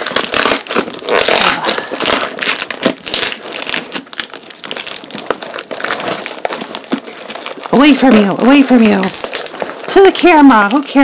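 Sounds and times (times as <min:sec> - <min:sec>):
packing tape and cardboard crinkling: 0:00.0 - 0:11.0.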